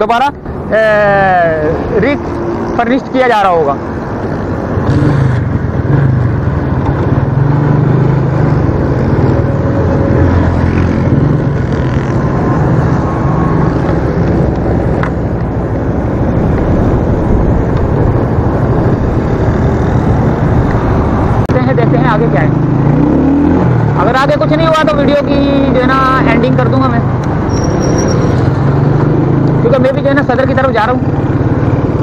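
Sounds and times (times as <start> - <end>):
motorcycle engine cruising: 0.0 - 32.0
road and traffic noise: 0.0 - 32.0.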